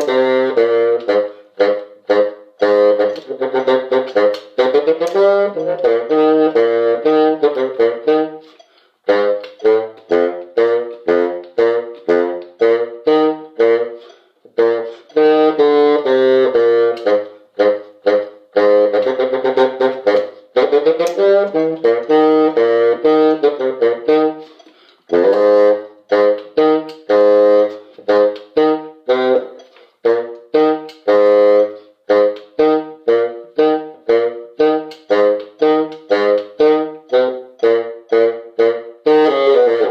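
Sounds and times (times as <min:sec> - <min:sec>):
wind instruments playing a tune: 0:00.0 - 0:39.9.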